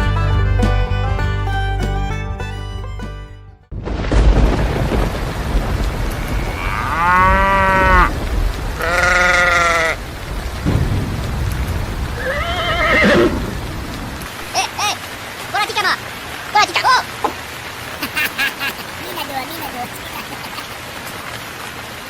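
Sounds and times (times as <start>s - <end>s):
heavy rain: 3.7s - 22.0s.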